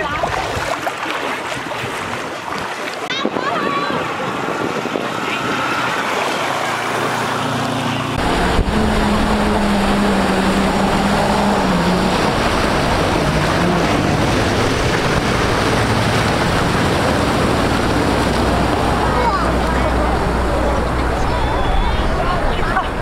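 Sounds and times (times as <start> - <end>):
wind buffeting microphone: 0.0 - 7.4, 8.1 - 23.0
rushing floodwater: 0.0 - 23.0.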